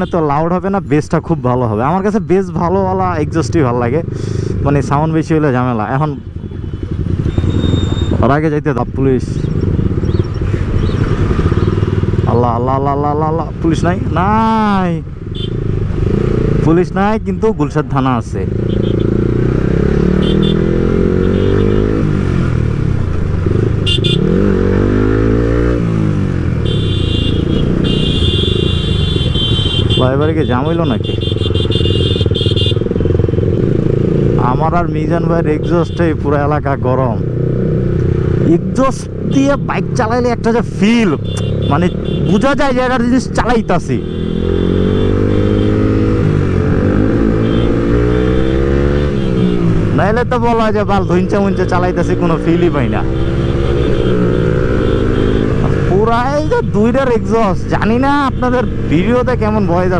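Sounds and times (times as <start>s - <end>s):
motorcycle engine revving: 2.8s - 17.2s, 17.9s - 59.9s.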